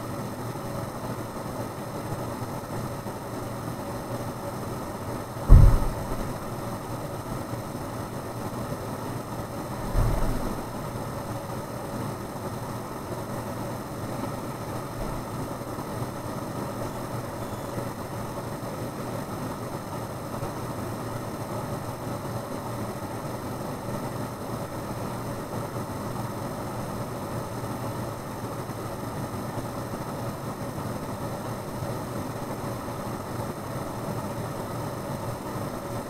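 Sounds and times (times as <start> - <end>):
mechanical hum and hiss: 0.0 - 36.0.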